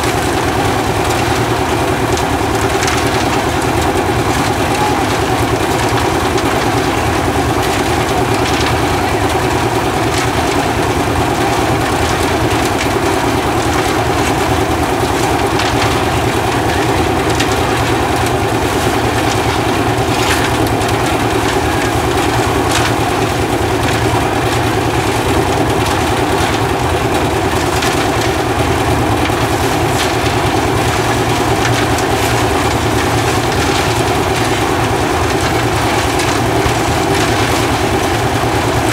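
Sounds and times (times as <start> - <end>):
concrete mixer running: 0.0 - 38.9
stones tumbling in drum: 0.0 - 38.9.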